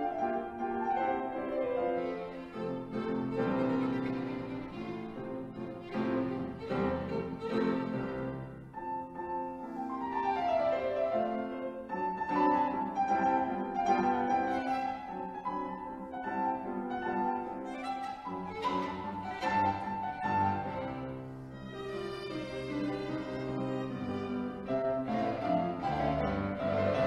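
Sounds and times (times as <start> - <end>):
piano: 0.0 - 27.0
violin: 0.0 - 27.0.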